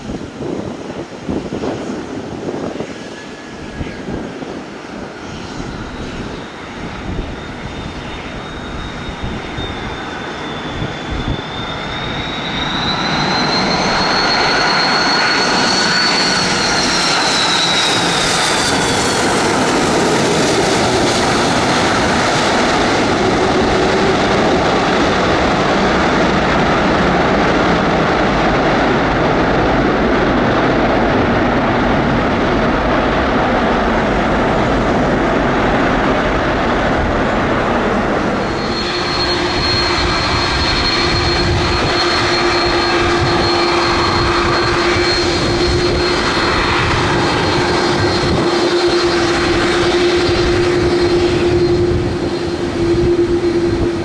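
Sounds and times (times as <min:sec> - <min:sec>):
jet engines passing by: 0:00.0 - 0:54.0.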